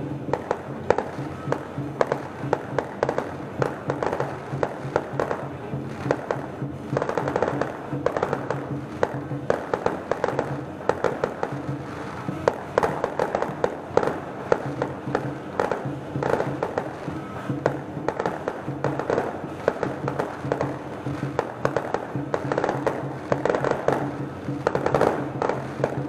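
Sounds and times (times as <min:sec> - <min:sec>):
fireworks cracking and banging: 0:00.0 - 0:26.0.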